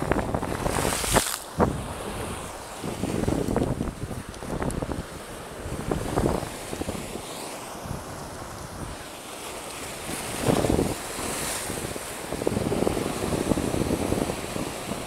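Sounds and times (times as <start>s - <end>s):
wind buffeting microphone: 0.0s - 9.1s, 9.8s - 15.0s
sea waves washing against rocks: 0.0s - 15.0s.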